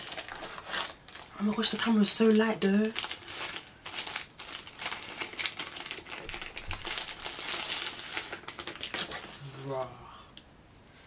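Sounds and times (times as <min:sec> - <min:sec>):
plastic wrapping crinkling: 0:00.0 - 0:09.6.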